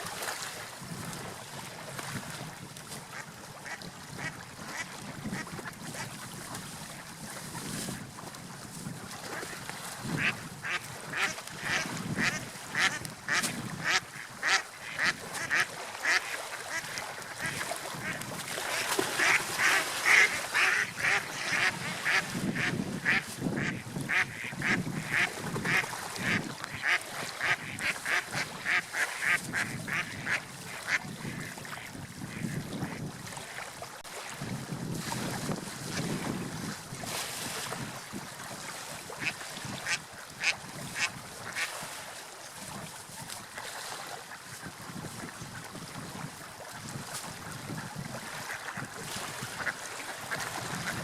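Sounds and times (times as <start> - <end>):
rushing water: 0.0 - 51.0
wind: 0.0 - 51.0.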